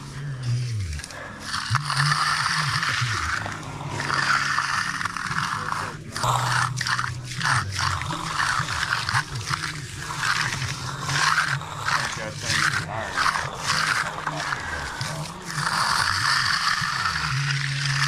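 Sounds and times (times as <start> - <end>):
tools scraping wet concrete: 0.0 - 18.0.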